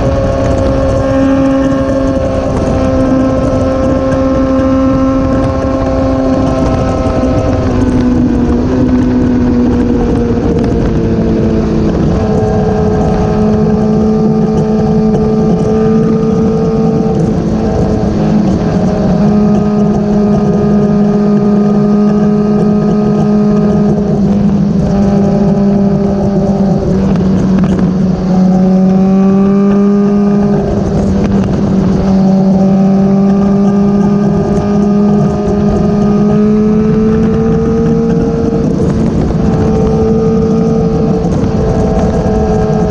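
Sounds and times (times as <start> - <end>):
motorcycle engine cruising: 0.0 - 42.9
wind on microphone: 0.0 - 42.9.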